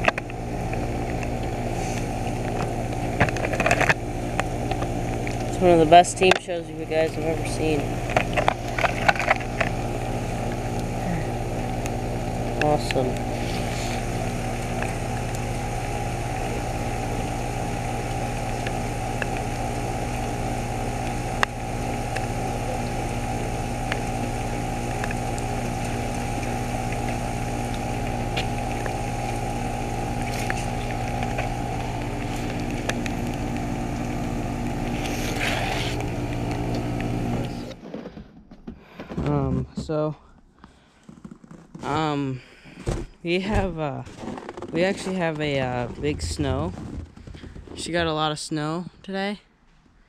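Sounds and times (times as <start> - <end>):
heat pump compressor hum: 0.0 - 49.5.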